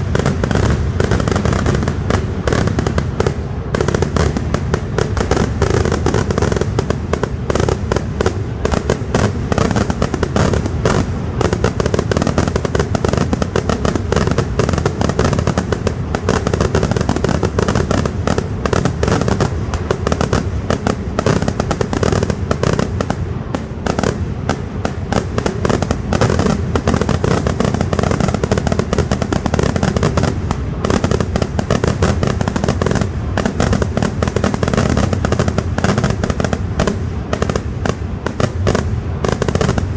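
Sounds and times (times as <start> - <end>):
barrage of firecracker blasts: 0.0 - 39.9.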